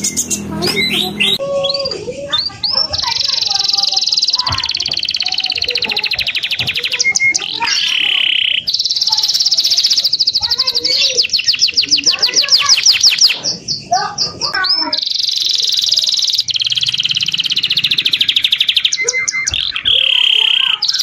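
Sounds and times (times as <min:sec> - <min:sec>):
songbirds trilling: 0:00.0 - 0:21.0.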